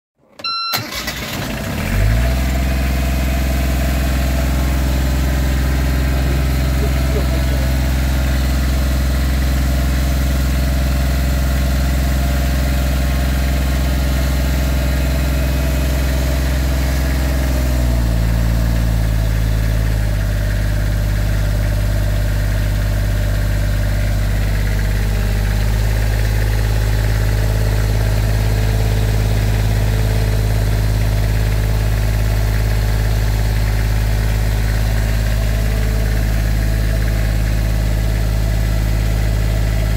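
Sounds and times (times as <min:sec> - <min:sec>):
diesel boat engine running: 0:00.7 - 0:39.9.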